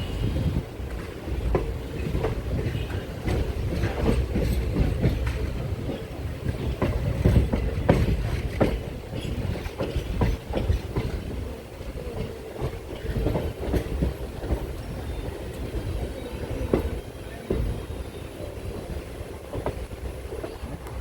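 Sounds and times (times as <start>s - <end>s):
train rumble: 0.0s - 21.0s
train wheels clattering on rails: 0.0s - 21.0s.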